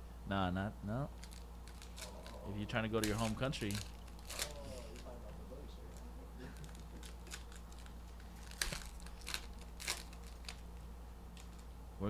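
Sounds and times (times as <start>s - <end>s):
card wrappers crinkling: 1.2s - 11.7s.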